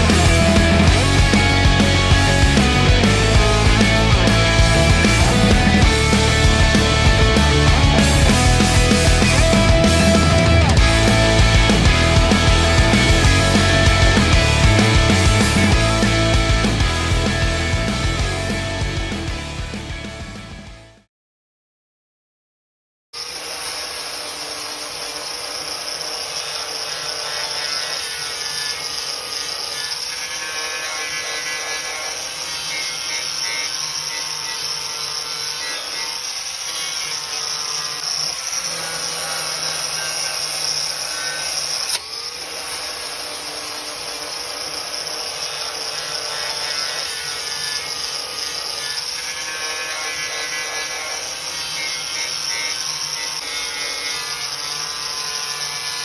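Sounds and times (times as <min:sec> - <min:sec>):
power tool on steel panel: 0:00.0 - 0:20.6, 0:23.2 - 0:56.0.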